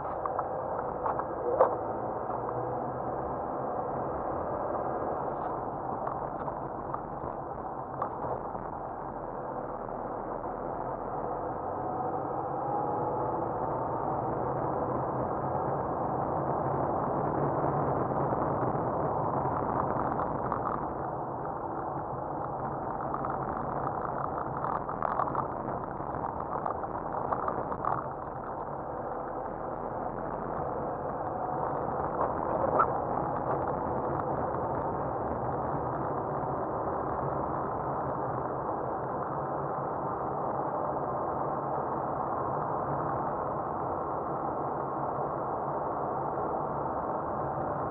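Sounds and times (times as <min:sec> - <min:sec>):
car engine inside cabin: 0:00.0 - 0:47.9
road noise on snow: 0:00.0 - 0:47.9.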